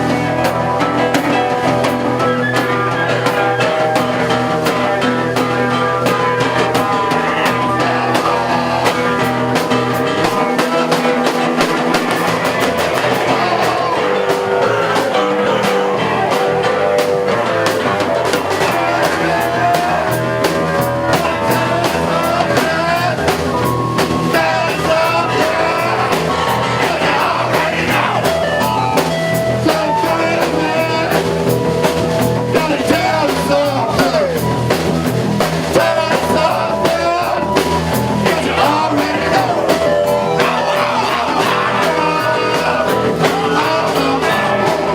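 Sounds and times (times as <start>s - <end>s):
drum kit beat: 0.0s - 44.9s
electric guitar: 0.0s - 44.9s
live rock band playing: 0.0s - 44.9s.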